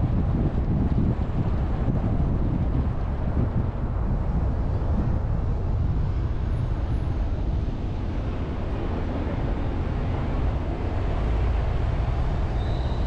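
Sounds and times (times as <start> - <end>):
car road and wind rumble: 0.0 - 13.0.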